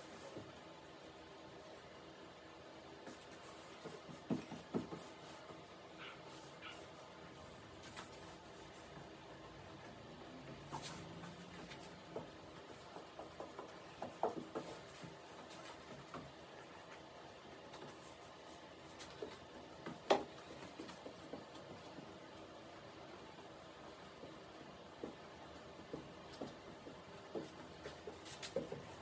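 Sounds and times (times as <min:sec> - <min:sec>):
hands tapping and rustling fiberglass: 0:03.0 - 0:29.0.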